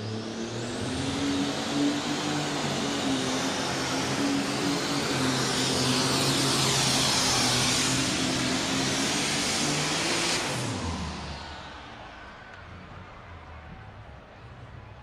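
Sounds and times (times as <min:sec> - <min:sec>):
tractor engine at full power: 0:00.0 - 0:12.5.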